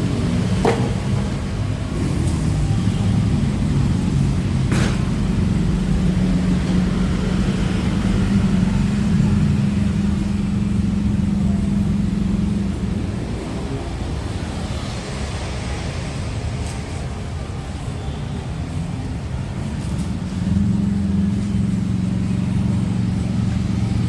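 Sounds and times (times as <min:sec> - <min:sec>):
car engine and road drone: 0:00.0 - 0:24.0.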